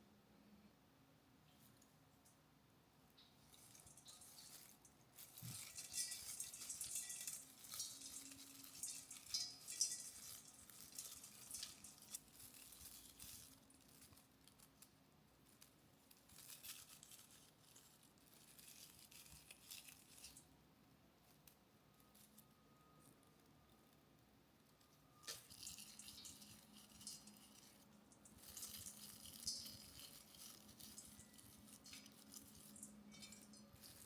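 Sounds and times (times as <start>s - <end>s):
rustling and crinkling handling: 3.4s - 20.5s, 21.2s - 34.0s.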